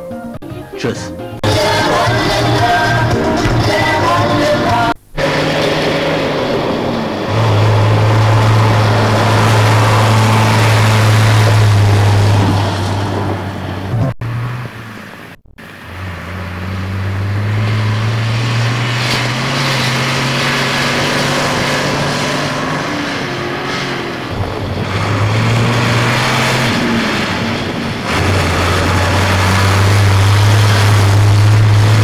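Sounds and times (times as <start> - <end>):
diesel truck engine running: 0.0 - 32.0
road and wind noise: 0.0 - 32.0.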